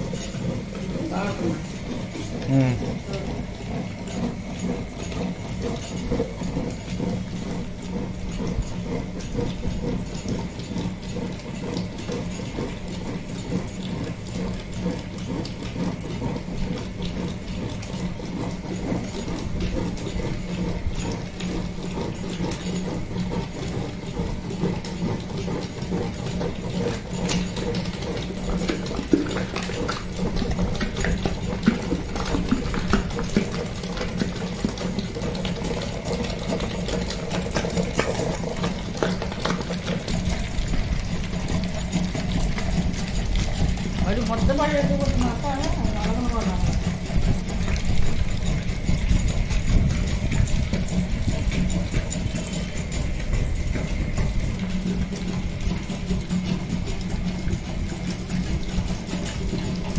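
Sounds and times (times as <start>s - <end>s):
wet grinder humming: 0.0s - 59.9s.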